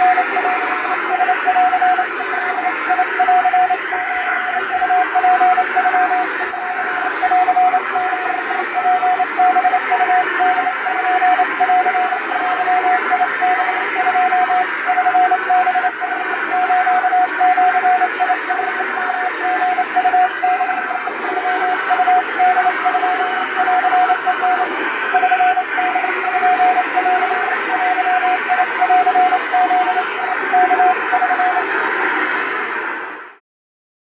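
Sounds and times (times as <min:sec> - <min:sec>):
morse code beeps: 0:00.0 - 0:31.7.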